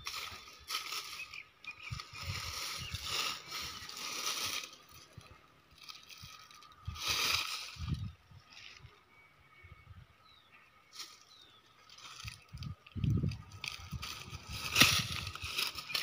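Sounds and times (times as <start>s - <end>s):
footsteps crunching through straw: 0.0s - 8.1s, 10.9s - 16.0s.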